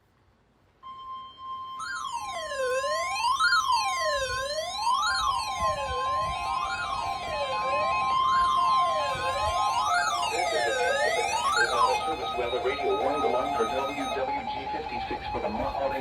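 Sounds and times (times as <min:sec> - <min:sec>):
beeping alarm: 0:00.8 - 0:16.0
siren-style alarm wailing: 0:00.8 - 0:16.0
steady warning alarm tone: 0:00.8 - 0:16.0.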